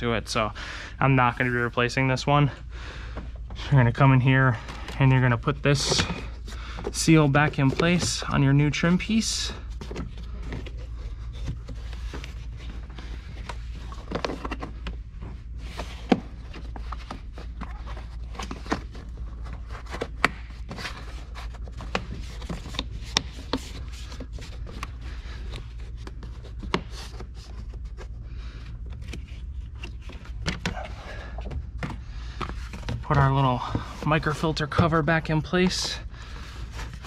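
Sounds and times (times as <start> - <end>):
steady low hum: 0.0 - 37.0
rubbing and scraping: 3.7 - 37.0.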